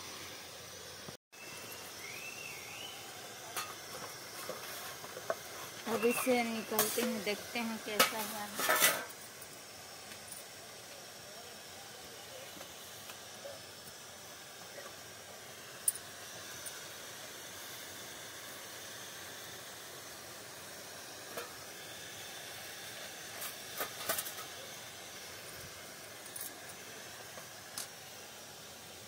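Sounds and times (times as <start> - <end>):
pot of water steaming hiss: 0.0 - 29.0.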